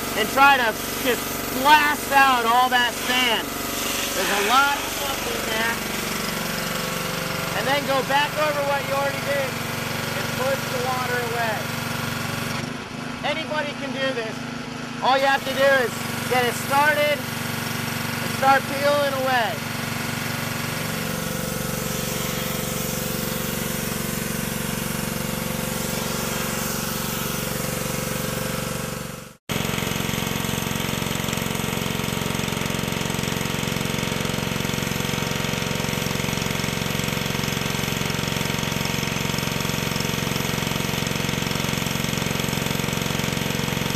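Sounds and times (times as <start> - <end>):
pressure washer engine running: 0.0 - 43.9.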